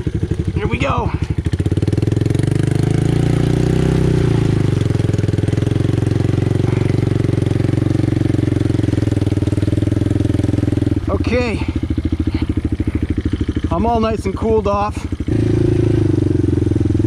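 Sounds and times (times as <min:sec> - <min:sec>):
atv engine running hard: 0:00.0 - 0:17.0.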